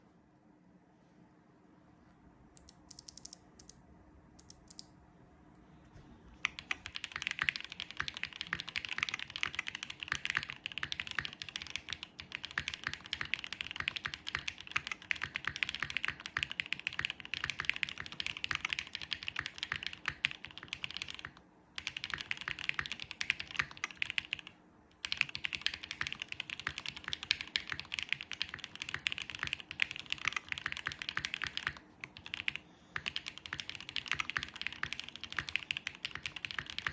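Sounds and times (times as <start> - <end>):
mechanical keyboard typing: 2.6 - 3.8, 4.4 - 4.9, 6.4 - 36.9.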